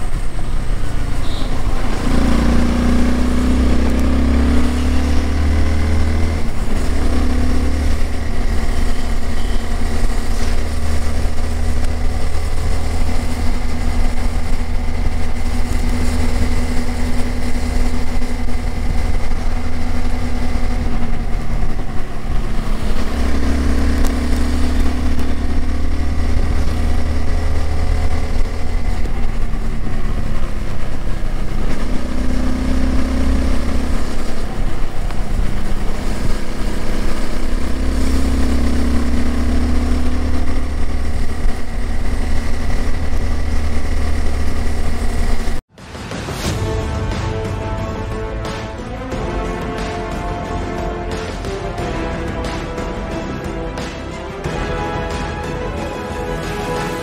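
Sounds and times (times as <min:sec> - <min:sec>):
motorcycle engine revving: 0:00.0 - 0:45.7.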